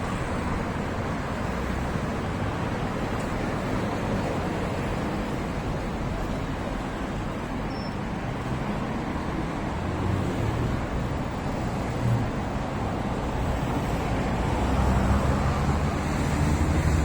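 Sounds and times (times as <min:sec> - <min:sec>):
road traffic rushing: 0:00.0 - 0:17.0.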